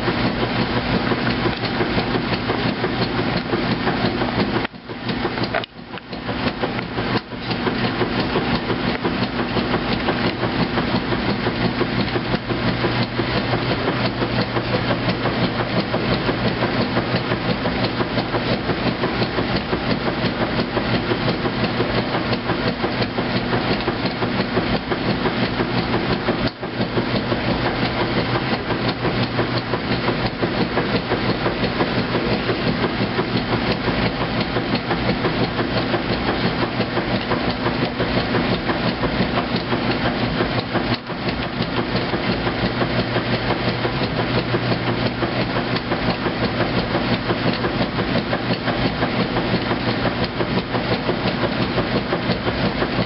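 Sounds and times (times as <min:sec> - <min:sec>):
washing machine agitating: 0:00.0 - 0:53.0.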